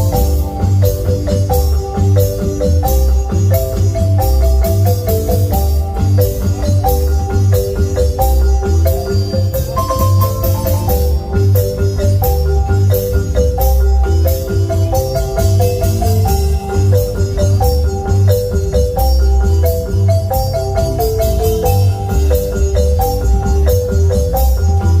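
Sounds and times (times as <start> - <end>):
bass line: 0.0 - 25.0
marimba melodic runs: 0.0 - 25.0
steady percussion beat: 0.0 - 25.0.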